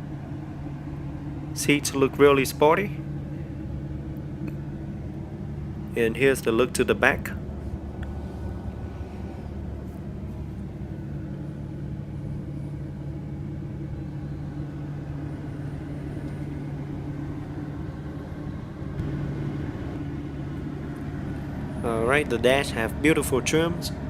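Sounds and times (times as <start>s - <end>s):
car idling: 0.0s - 24.0s
constant low hum: 0.0s - 24.0s.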